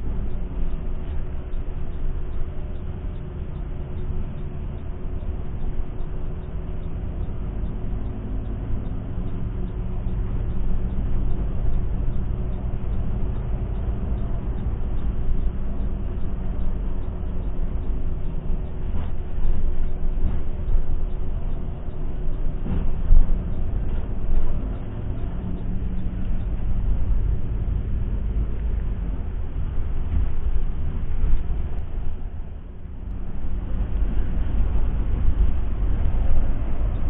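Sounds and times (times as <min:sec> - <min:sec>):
diesel engine and road rumble: 0:00.0 - 0:37.0.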